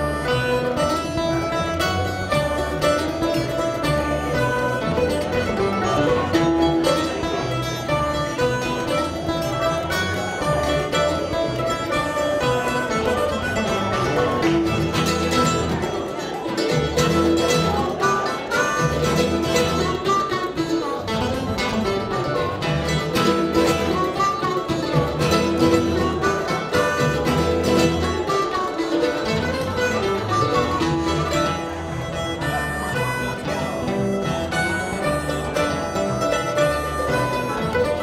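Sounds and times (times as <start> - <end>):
upright bass walking line: 0.0 - 18.0, 21.1 - 28.5, 29.1 - 38.0
acoustic guitar strumming: 0.0 - 38.0
quick plucked lead notes: 0.0 - 38.0.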